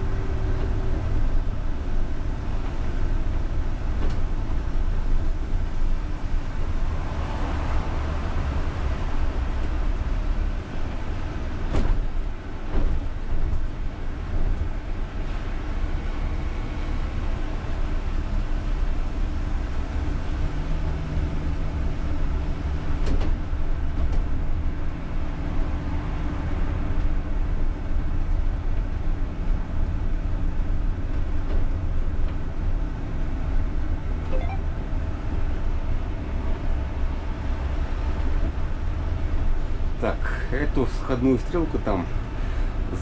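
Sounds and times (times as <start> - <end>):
trolleybus rumbling under way: 0.0 - 43.0.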